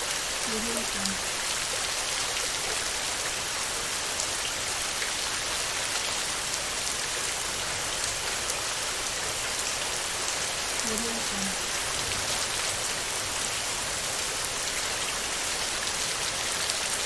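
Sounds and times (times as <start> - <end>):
heavy rain on a tin roof: 0.0 - 17.0.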